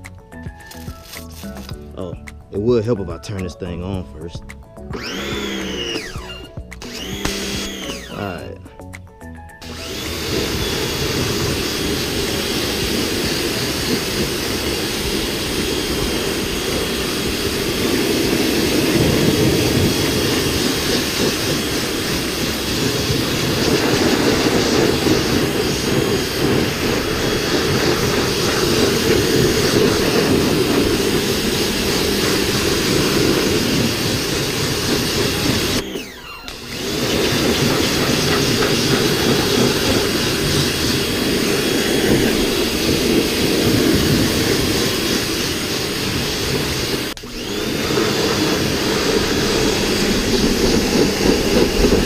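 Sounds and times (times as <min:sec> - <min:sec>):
pressure washer spraying water: 0:04.9 - 0:08.5, 0:09.6 - 0:52.0.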